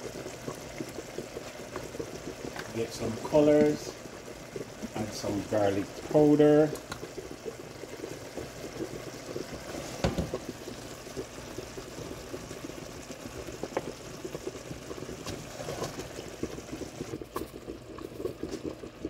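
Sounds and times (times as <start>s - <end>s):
sauce bubbling in a pan: 0.0s - 19.0s.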